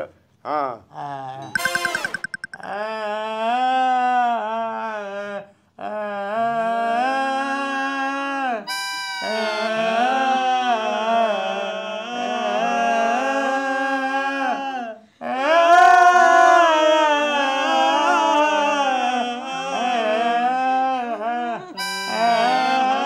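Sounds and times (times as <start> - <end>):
person singing a wavering lament: 2.6 - 23.0.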